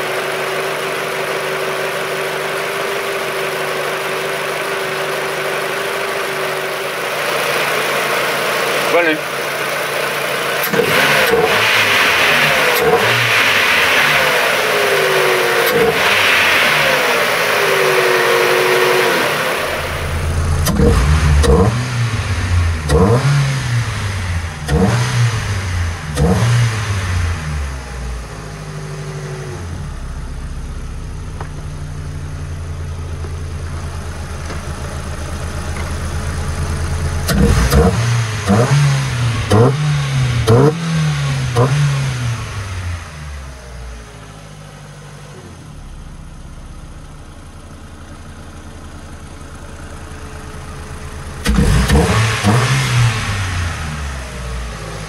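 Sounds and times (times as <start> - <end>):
car engine revving and idling: 0.0 - 55.0.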